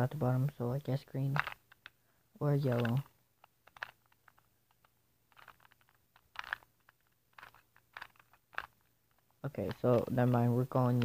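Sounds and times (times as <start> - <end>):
puzzle cube plastic clicking: 1.1 - 11.0.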